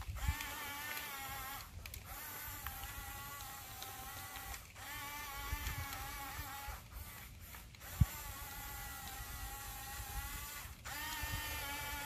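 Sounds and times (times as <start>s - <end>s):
toy bulldozer motors whining: 0.0s - 12.0s.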